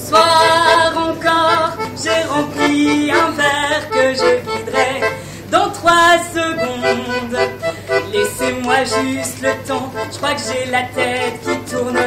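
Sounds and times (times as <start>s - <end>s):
accordion melody: 0.0s - 12.0s
woman singing: 0.0s - 12.0s.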